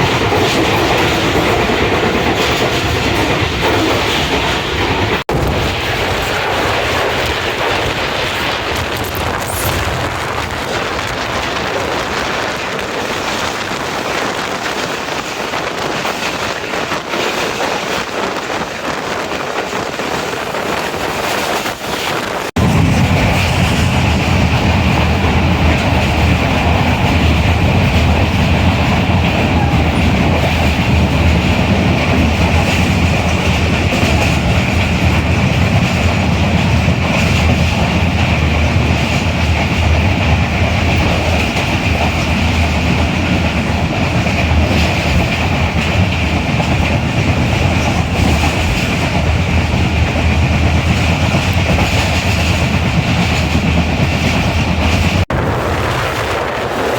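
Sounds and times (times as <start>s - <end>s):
train wheels clattering over rails: 0.0s - 56.9s.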